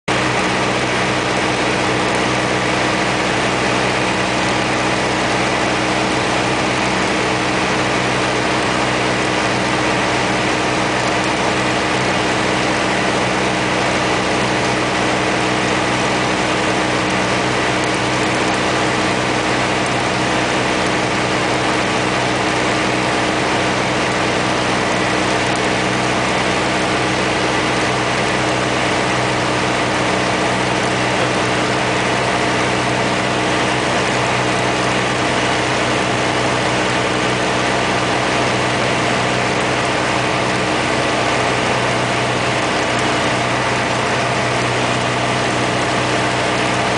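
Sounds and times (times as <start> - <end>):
propeller plane engine droning: 0.1 - 46.9.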